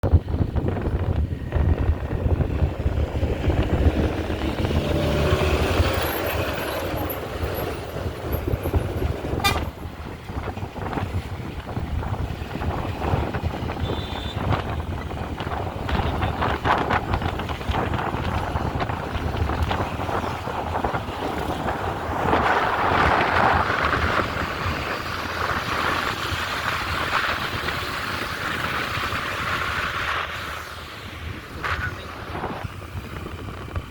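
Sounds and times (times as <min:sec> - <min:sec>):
heavy vehicle engine rumbling: 0:00.0 - 0:33.9.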